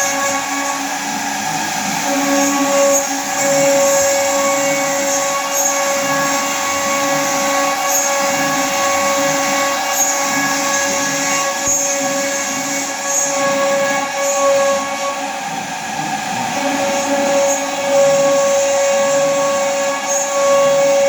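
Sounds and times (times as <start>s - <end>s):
dense noisy rush: 0.0s - 21.0s
spindle motor whine: 0.0s - 21.0s.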